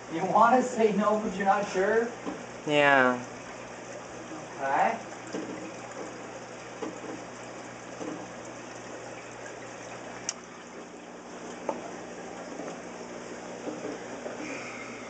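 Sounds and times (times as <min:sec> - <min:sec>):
water trickling into tank: 0:00.0 - 0:15.0.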